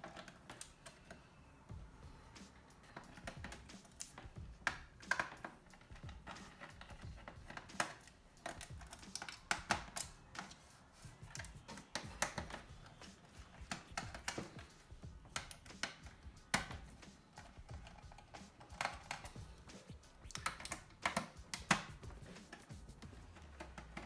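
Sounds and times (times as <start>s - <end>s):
screwdriver clicking on plastic casing: 2.9s - 10.6s, 11.2s - 24.0s.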